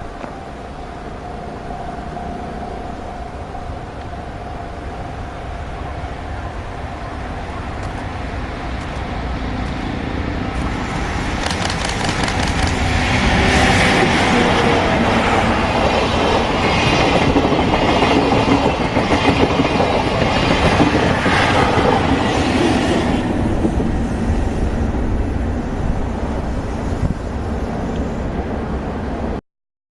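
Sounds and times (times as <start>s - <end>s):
train passing close by: 0.0s - 29.4s.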